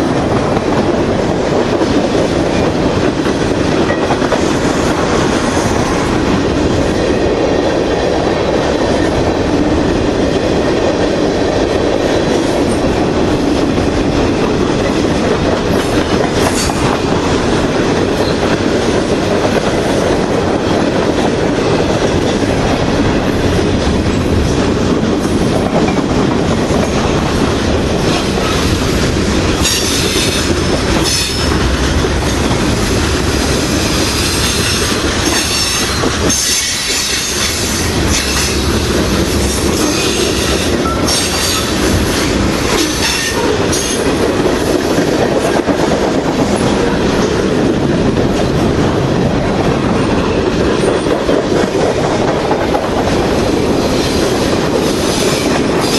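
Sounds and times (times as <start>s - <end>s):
freight train rumble: 0.0s - 55.9s.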